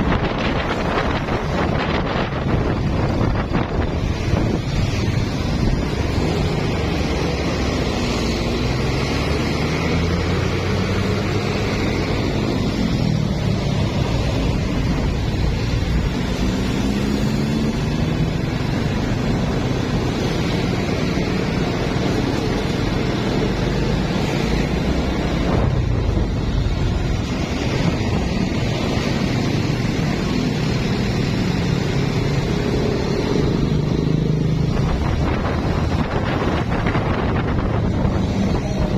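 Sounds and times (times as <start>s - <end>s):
motorcycle engine revving: 0.0s - 38.9s
wind noise on microphone: 0.0s - 38.9s.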